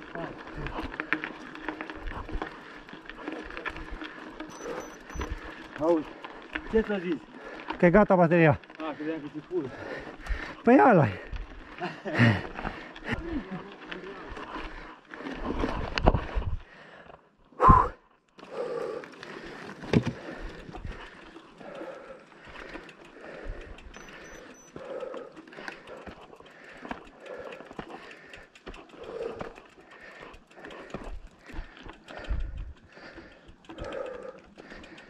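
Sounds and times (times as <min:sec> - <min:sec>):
mountain bike rattling on trail: 0:00.0 - 0:35.0.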